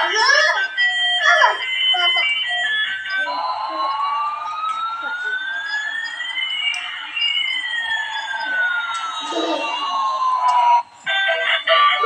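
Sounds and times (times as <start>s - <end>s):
gliding electronic siren tones: 0.0s - 12.0s
toy stepped beeping notes: 0.8s - 12.0s.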